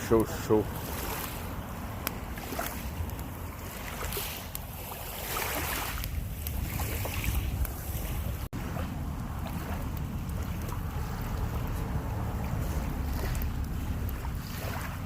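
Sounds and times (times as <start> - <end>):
campfire crackling: 0.0 - 15.0
wind rumble on microphone: 0.0 - 15.0.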